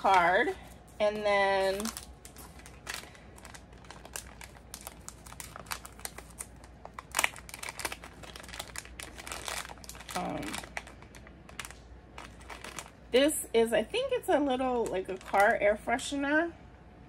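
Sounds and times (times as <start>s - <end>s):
packaging crinkling: 0.0s - 13.2s, 14.5s - 15.8s.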